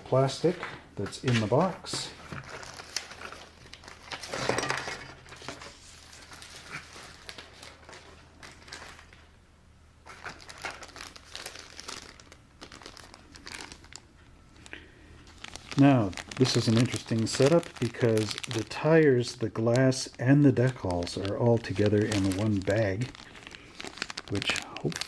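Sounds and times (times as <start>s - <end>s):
plastic bags crinkling: 1.3s - 9.3s, 10.0s - 25.0s.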